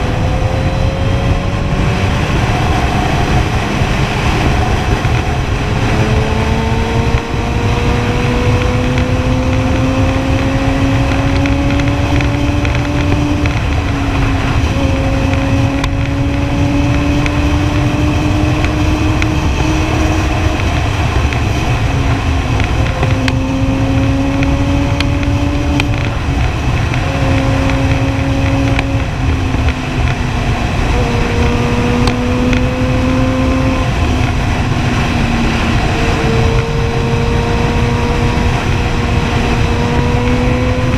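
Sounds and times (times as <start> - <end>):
motorcycle engine accelerating: 0.0 - 40.9
wind rush on microphone: 0.0 - 40.9.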